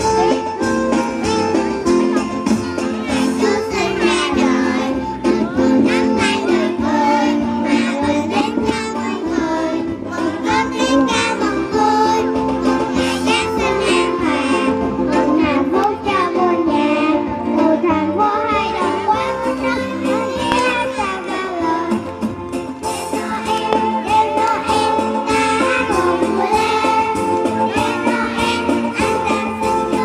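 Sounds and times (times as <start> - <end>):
children singing: 2.7 - 22.1, 22.8 - 30.0.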